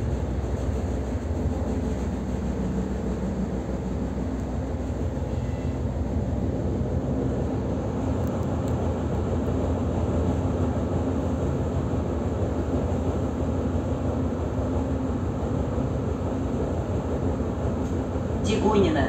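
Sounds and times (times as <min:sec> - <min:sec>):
wheels rumbling on rail: 0:00.0 - 0:19.0.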